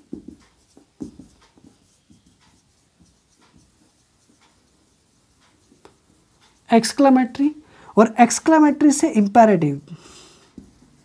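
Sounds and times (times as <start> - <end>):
marker writing on whiteboard: 0.0 - 9.6, 10.4 - 11.0.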